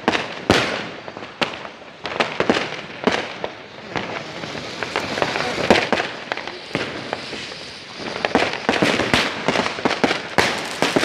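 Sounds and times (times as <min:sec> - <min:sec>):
fireworks banging: 0:00.0 - 0:11.0
fireworks crackling and rumbling: 0:00.0 - 0:11.0.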